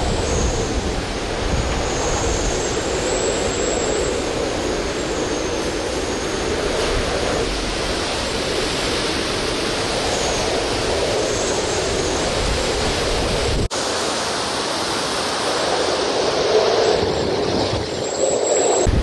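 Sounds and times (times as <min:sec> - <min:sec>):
strong wind blowing: 0:00.0 - 0:19.0.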